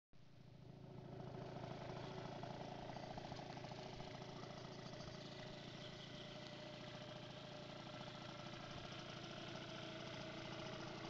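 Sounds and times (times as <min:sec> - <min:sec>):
scooter engine idling: 0:00.3 - 0:11.0.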